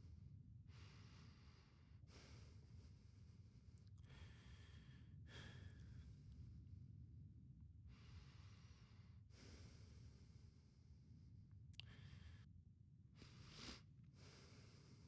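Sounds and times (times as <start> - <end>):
soft breaths: 0.0 - 6.9, 7.8 - 15.0.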